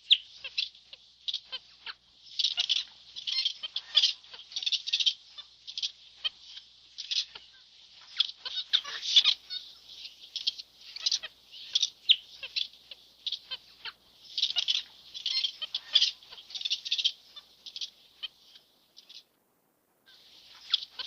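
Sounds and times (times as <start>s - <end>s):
birds chattering: 0.0s - 19.4s, 20.1s - 21.0s.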